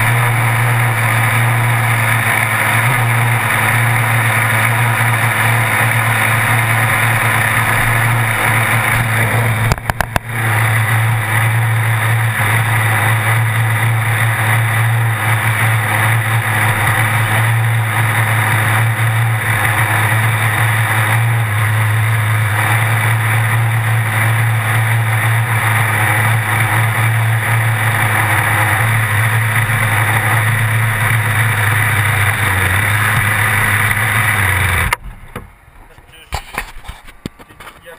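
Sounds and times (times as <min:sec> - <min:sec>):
small nitro engine idling: 0:00.0 - 0:37.9.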